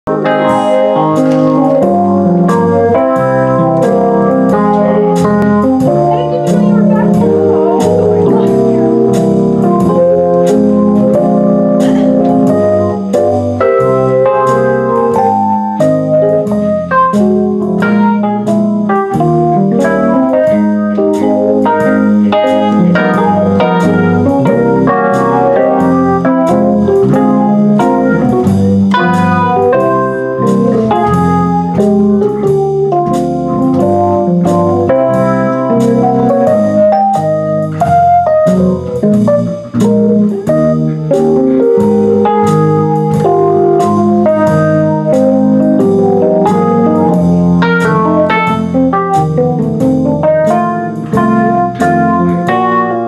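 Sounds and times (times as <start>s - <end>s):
jazz keyboard improvisation: 0.0s - 53.0s.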